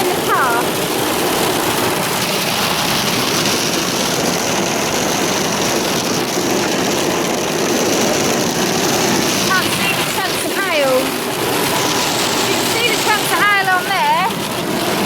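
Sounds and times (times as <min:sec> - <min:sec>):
hail and rain on car roof: 0:00.0 - 0:15.0.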